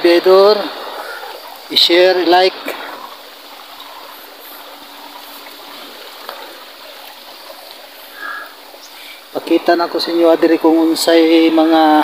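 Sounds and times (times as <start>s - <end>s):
rushing hiss of moving water: 0.0s - 12.0s.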